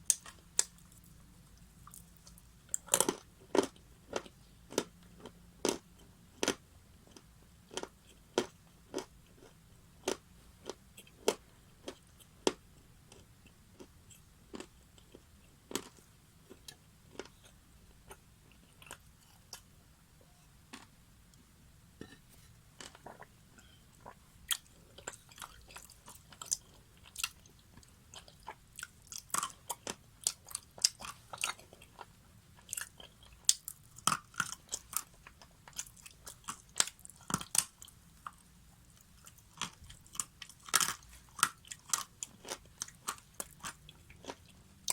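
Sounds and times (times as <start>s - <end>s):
chewing crunchy food: 0.1s - 19.7s, 22.8s - 44.9s.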